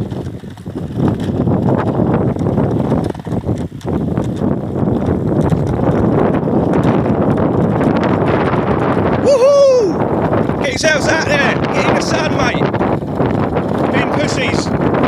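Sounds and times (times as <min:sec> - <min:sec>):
bike knocks and rattles: 0:00.0 - 0:09.2, 0:10.0 - 0:15.0
wind buffeting microphone: 0:00.0 - 0:15.0.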